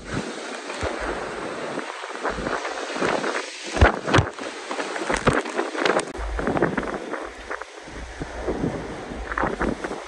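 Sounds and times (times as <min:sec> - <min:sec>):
wind gusting against microphone: 0:00.0 - 0:10.0.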